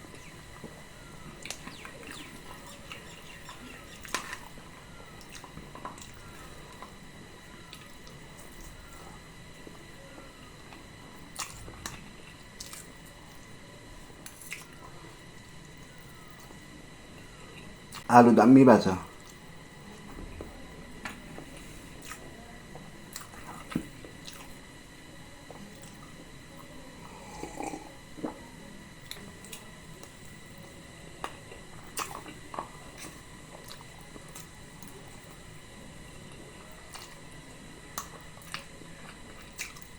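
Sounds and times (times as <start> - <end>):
person chewing soft food: 0.0 - 18.1, 19.2 - 24.6, 25.5 - 39.9.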